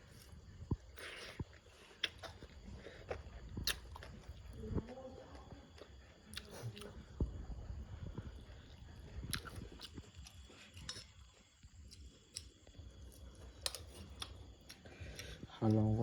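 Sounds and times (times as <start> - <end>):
person chewing fruit: 0.0 - 7.1, 8.1 - 15.7.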